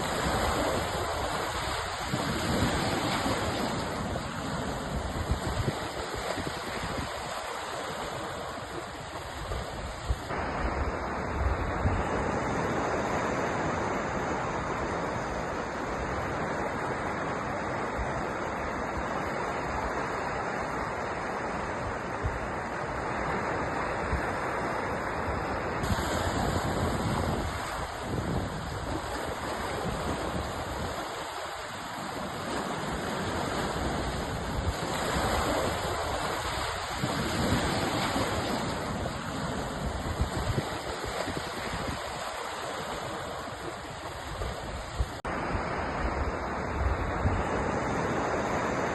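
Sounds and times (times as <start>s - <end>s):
sea surf roaring: 0.0s - 48.9s.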